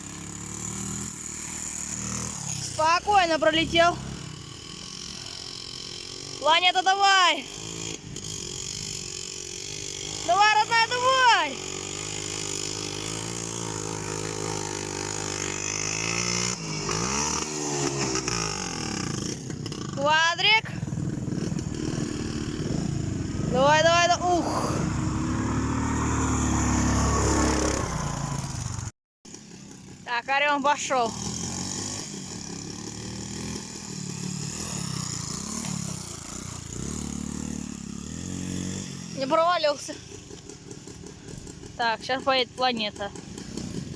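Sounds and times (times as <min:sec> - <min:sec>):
two-stroke motorcycle engine: 0:00.0 - 0:43.9.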